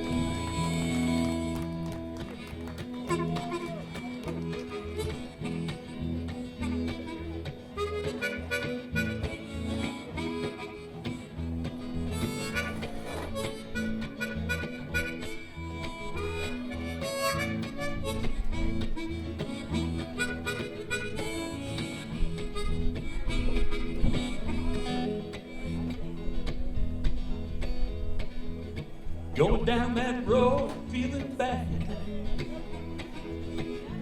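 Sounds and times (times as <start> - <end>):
harmonica lead: 0.0 - 26.2, 32.5 - 34.0
blues band playing: 0.0 - 34.0.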